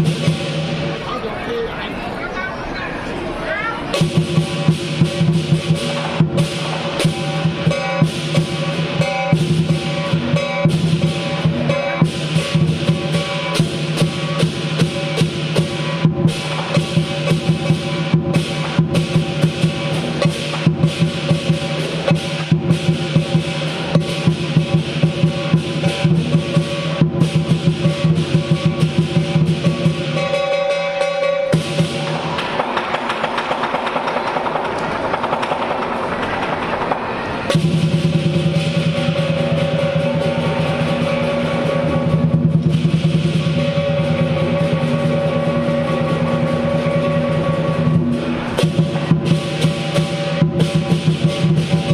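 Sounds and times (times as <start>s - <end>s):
big drum beaten rapidly: 0.0s - 1.1s, 3.9s - 51.9s
ringing cymbals: 3.9s - 33.0s, 37.1s - 51.9s.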